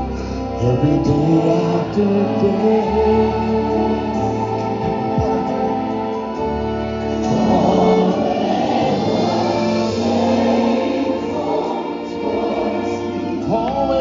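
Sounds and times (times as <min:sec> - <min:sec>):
choir voices singing: 0:00.0 - 0:14.0
keyboard sustained chords: 0:00.0 - 0:14.0.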